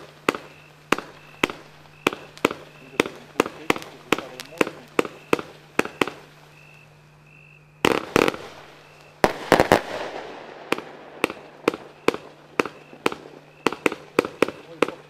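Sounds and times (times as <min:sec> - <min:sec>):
firework launch bangs: 0:00.0 - 0:06.3, 0:07.8 - 0:15.0
fading hiss of sparkling fireworks: 0:00.0 - 0:15.0
firework reports: 0:00.0 - 0:15.0.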